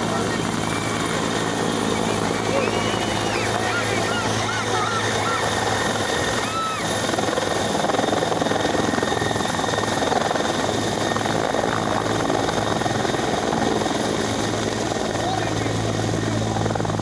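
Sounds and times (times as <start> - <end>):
helicopter rotor and engines: 0.0 - 17.0.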